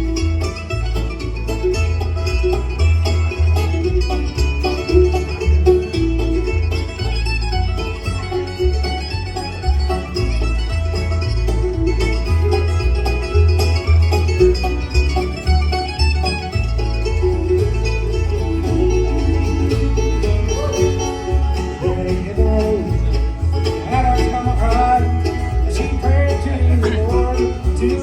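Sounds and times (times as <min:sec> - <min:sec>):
bluegrass band music: 0:00.0 - 0:28.0.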